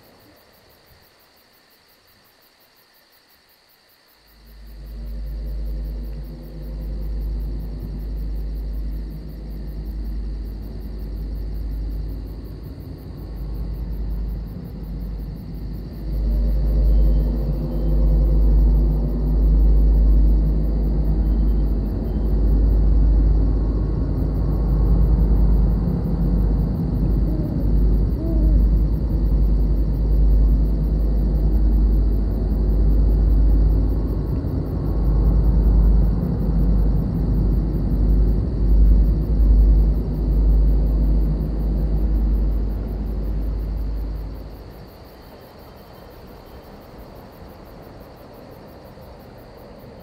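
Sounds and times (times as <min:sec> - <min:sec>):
crickets droning: 0:00.0 - 0:50.0.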